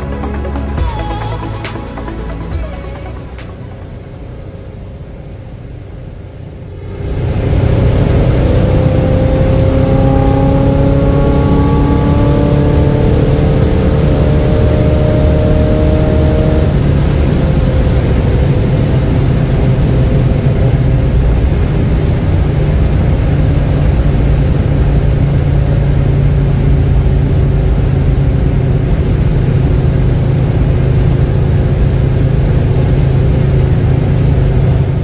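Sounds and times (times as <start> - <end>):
car engine drone: 0.0 - 35.0
road noise inside car: 0.0 - 35.0.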